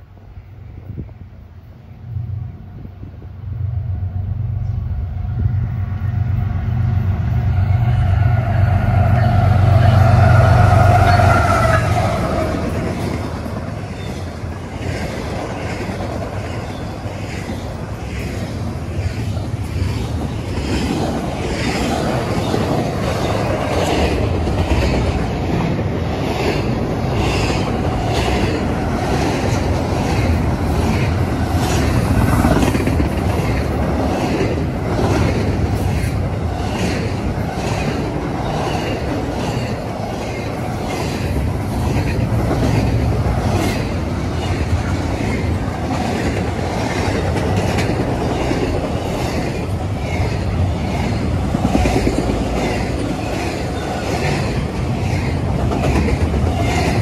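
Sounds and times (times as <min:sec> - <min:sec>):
freight train wheels rumbling: 0:00.0 - 0:57.0
wheels clickety-clack on rail: 0:07.3 - 0:57.0.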